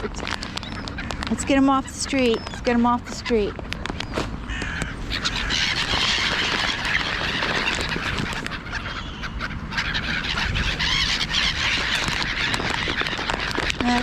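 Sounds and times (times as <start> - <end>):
flock of birds calling: 0.0 - 14.0.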